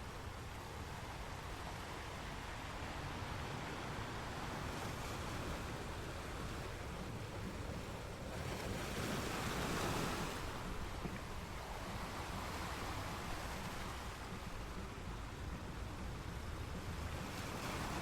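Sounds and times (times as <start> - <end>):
ocean surf washing: 0.0 - 18.0.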